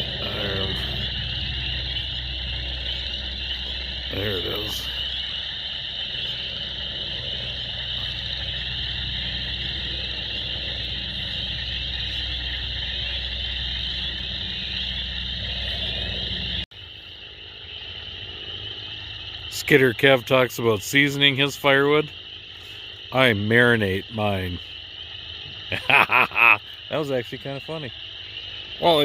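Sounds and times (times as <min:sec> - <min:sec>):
frogs chirping: 0:00.0 - 0:29.0
low steady drone: 0:00.0 - 0:29.0.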